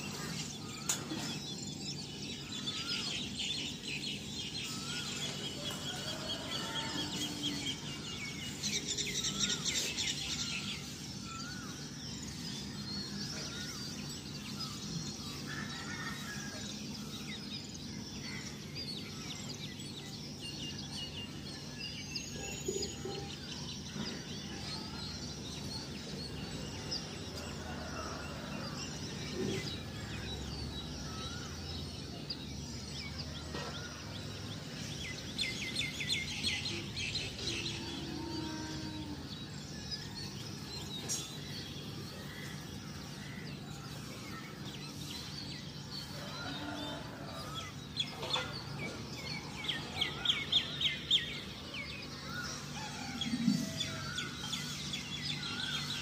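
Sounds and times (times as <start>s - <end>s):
birds chirping and trilling: 0.0s - 56.0s
steady background noise: 0.0s - 56.0s.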